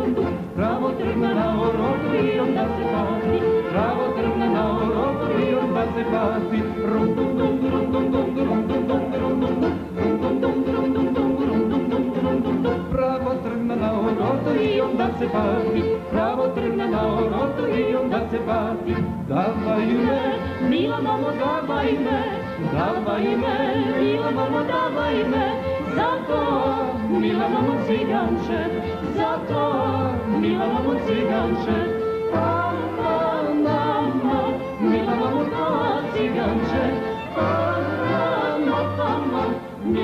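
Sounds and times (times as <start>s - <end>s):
folk band playing: 0.0s - 40.0s
woman and man singing duet: 0.0s - 40.0s.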